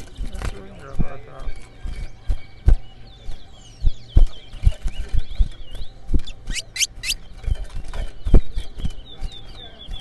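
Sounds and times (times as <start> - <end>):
finch twittering: 1.0 - 10.0.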